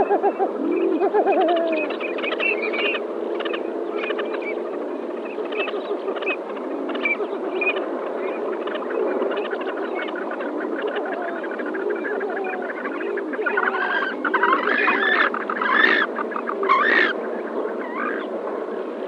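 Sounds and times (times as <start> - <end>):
coots calling in chorus: 0.0 - 4.6, 5.3 - 17.2.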